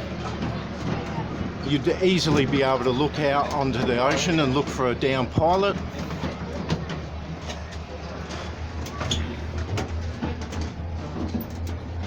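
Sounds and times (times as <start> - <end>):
aircraft cabin hum: 0.0 - 12.0
faint voices: 0.0 - 12.0.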